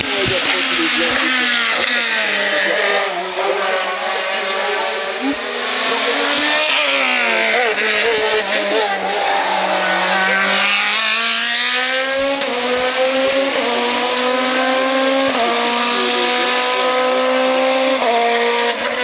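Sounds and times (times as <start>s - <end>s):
racing car engine: 0.0s - 19.0s.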